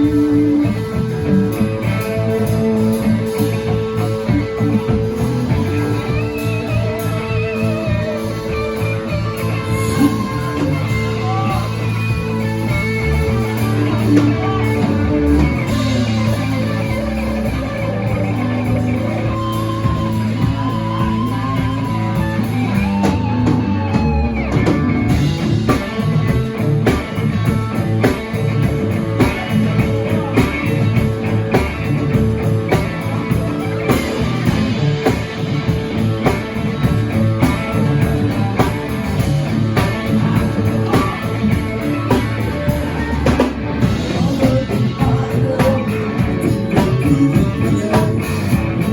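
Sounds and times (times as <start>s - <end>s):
bass guitar: 0.0s - 48.9s
drum kit beat: 0.0s - 48.9s
electric guitar: 0.0s - 48.9s.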